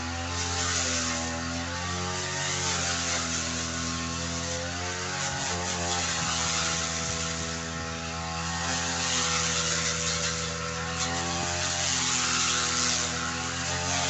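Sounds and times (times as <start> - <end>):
brush cutter engine cutting grass: 0.0 - 14.0.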